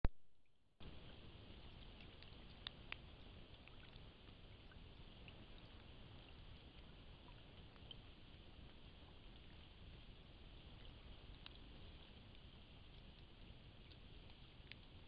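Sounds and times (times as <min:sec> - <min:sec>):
light rain hiss: 0:00.8 - 0:15.0
soft drip ticks: 0:00.8 - 0:15.0.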